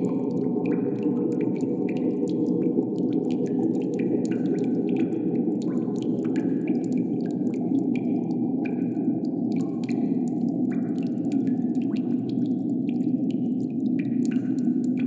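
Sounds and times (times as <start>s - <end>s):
water drips plinking: 0.0s - 15.0s.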